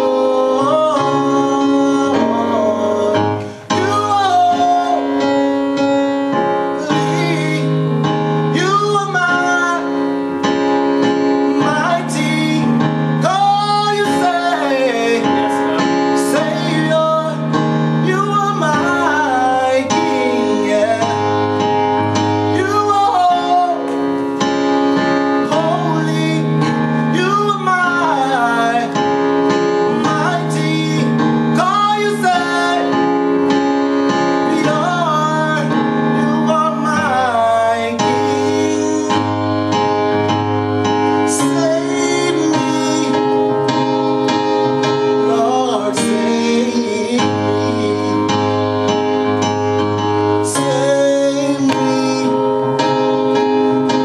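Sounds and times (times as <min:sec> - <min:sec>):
man singing gospel song: 0:00.0 - 0:39.9, 0:41.1 - 0:48.9, 0:50.4 - 0:53.0
piano accompaniment: 0:00.0 - 0:54.0.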